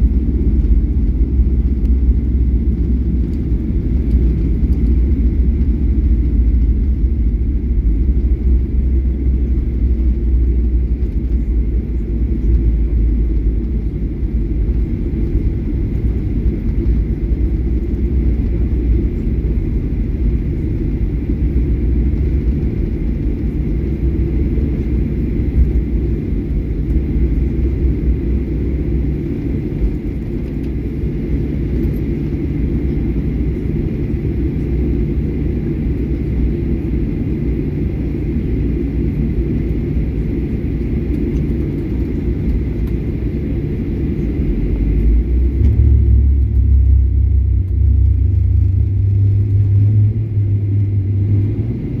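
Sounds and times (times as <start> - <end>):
deep hum: 0.0 - 37.4, 39.4 - 52.0
airliner low rumble: 0.0 - 52.0.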